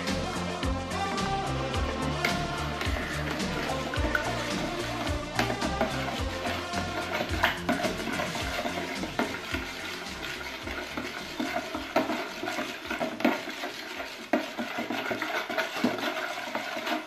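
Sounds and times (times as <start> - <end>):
utensil scraping bowl: 0.0 - 17.0
utensil stirring mixture in bowl: 0.0 - 17.0.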